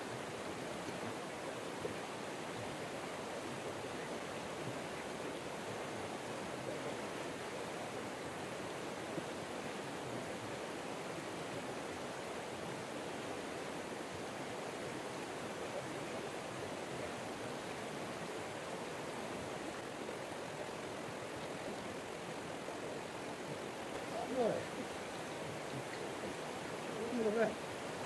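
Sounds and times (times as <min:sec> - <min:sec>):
flooded river rushing: 0:00.0 - 0:28.0.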